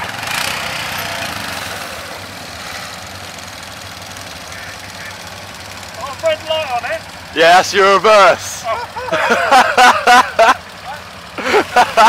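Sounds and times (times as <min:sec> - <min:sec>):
quad bike engines idling: 0:00.0 - 0:12.0.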